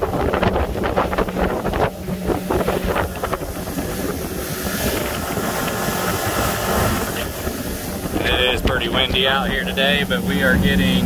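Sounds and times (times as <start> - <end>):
boat through choppy water: 0.0 - 11.0
outboard motor running at high speed: 0.0 - 11.0
wind buffeting microphone: 0.0 - 11.0.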